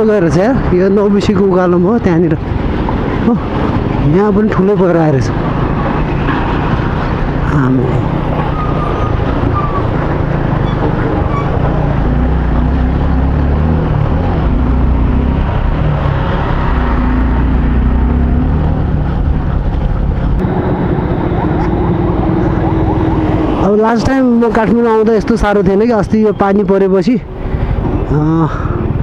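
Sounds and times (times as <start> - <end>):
wind buffeting microphone: 0.5 - 29.0
motorcycle engine running: 5.3 - 29.0.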